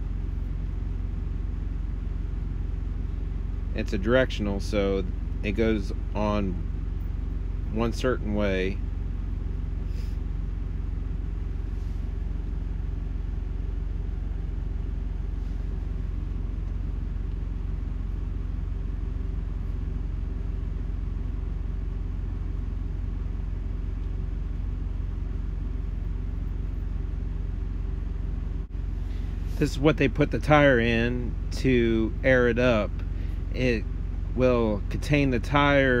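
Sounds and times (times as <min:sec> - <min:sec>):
low mechanical rumble and hum: 0:00.0 - 0:36.0.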